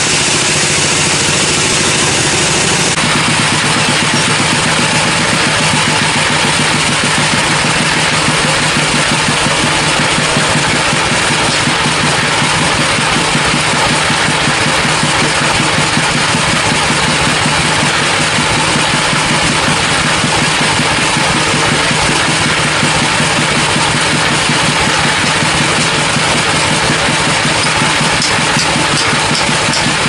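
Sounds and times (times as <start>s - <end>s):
sawmill machine drone: 0.0s - 30.0s.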